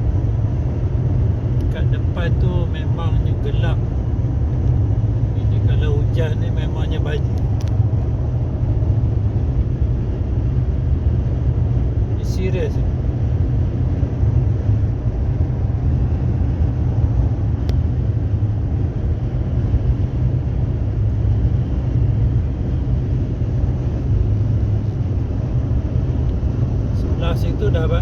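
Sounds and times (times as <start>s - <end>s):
road and engine rumble: 0.0s - 28.0s
wind and tyre hiss: 0.0s - 28.0s.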